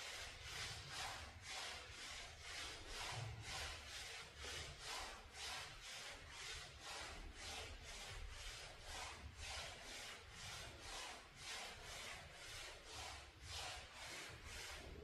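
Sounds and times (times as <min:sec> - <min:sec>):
sliders scraping across floor: 0:00.0 - 0:15.0.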